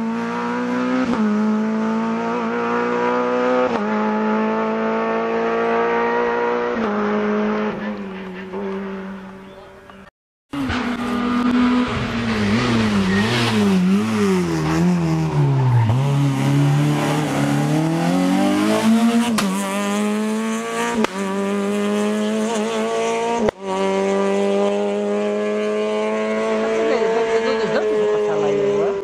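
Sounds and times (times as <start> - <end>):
rally car engine revving: 0.0 - 10.0, 10.6 - 29.0.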